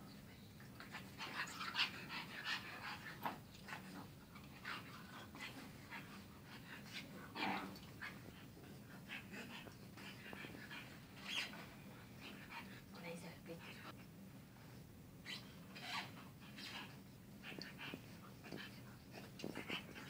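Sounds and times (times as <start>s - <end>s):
faint steady hum: 0.0s - 20.0s
puppies breathy noises and scuffles: 0.0s - 20.0s.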